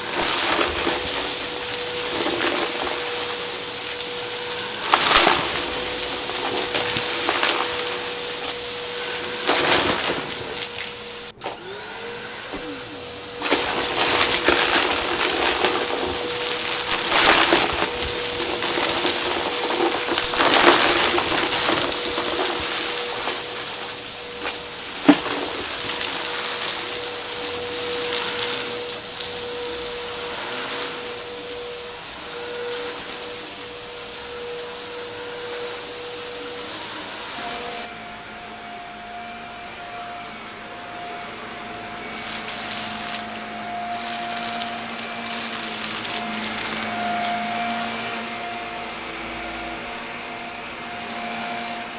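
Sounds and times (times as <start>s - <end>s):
suction over crunchy debris: 0.0s - 11.3s, 12.5s - 37.9s, 41.3s - 48.8s
vacuum cleaner running: 0.0s - 51.9s.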